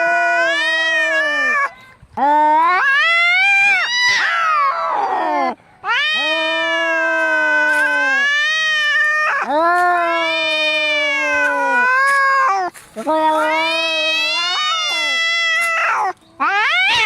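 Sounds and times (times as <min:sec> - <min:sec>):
cat yowling: 0:00.0 - 0:01.7, 0:02.5 - 0:17.0.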